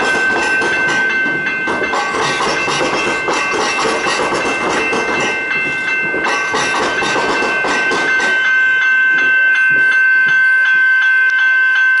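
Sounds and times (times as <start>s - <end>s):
train wheels clattering: 0.0s - 10.9s
crossing warning bell ringing: 0.0s - 12.0s.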